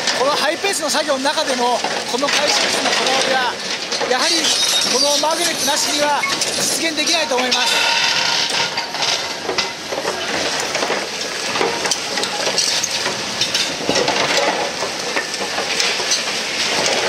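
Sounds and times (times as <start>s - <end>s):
concrete rubble crunching and grinding: 0.0s - 17.0s.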